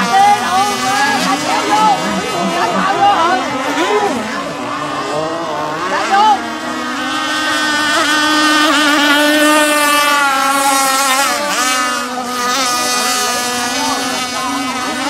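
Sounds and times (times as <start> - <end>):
small two-stroke engines whining: 0.0 - 15.0.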